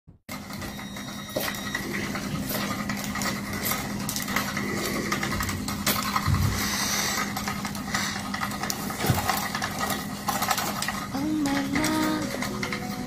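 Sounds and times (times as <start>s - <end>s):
toy wand clicking and tapping: 2.1s - 13.0s.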